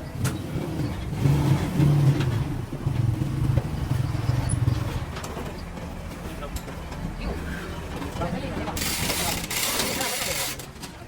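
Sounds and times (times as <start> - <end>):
vehicle engine rumbling: 0.0 - 9.8.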